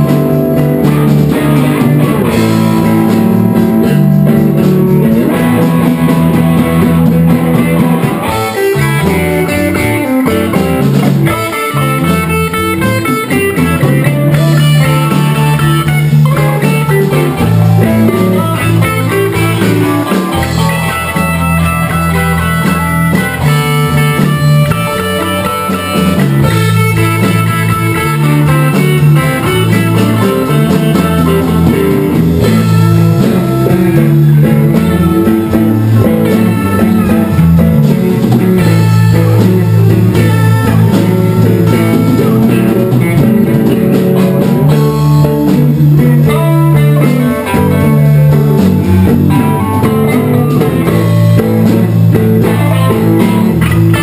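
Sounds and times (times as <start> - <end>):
drum kit: 0.0 - 54.0
electric bass: 0.0 - 54.0
electric guitar: 0.0 - 54.0.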